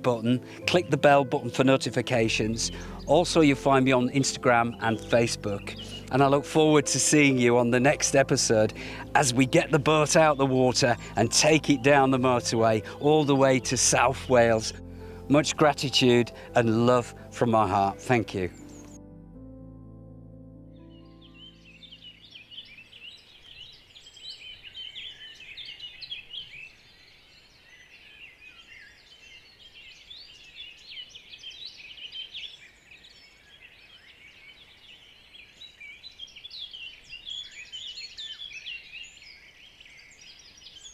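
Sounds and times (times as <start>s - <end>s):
songbirds chirping and trilling: 0.0s - 19.0s, 20.7s - 40.9s.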